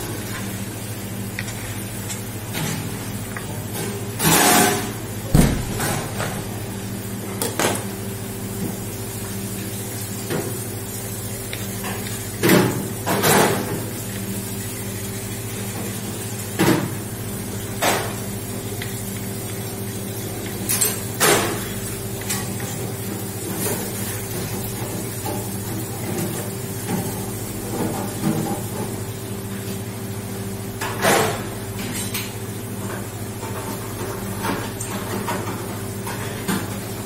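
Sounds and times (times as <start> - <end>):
kitchen equipment hum: 0.0 - 37.0.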